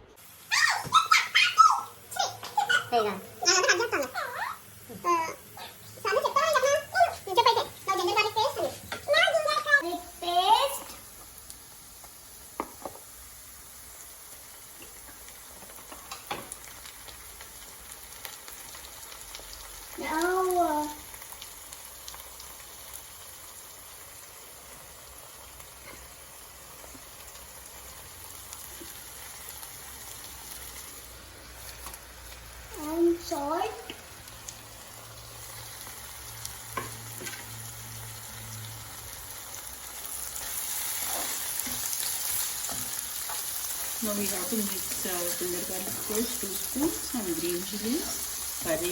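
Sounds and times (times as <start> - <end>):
onions sizzling in oil: 0.2 - 48.9.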